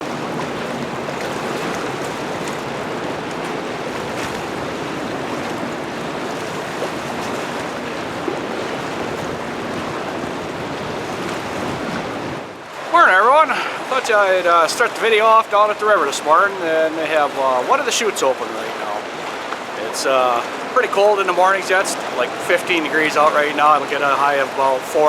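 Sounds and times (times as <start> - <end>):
water rushing through dam chute: 0.0 - 25.0.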